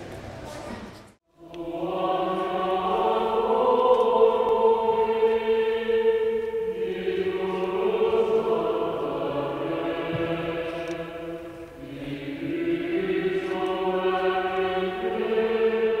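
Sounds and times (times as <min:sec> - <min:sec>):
choir singing held notes: 0:01.3 - 0:16.0.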